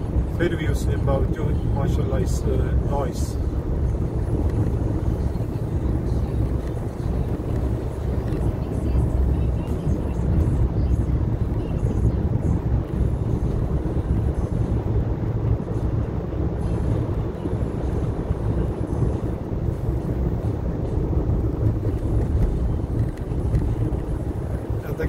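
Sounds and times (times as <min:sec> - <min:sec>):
vehicle cabin road and engine rumble: 0:00.0 - 0:25.0.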